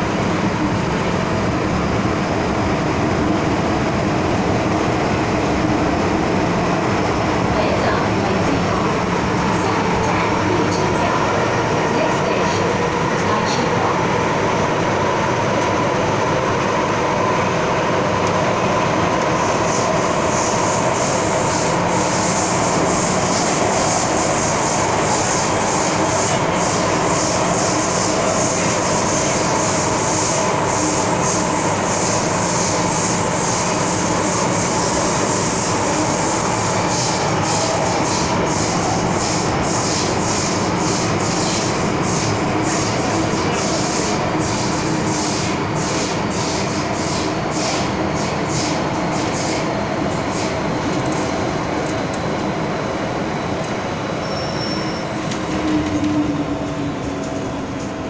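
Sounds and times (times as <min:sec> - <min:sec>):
train rumbling through a tunnel: 0:00.0 - 0:58.0.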